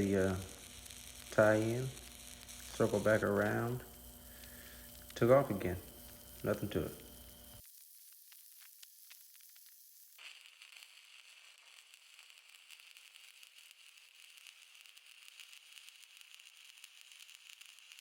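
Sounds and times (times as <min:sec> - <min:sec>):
welding arc crackling and hissing: 0:00.0 - 0:18.0.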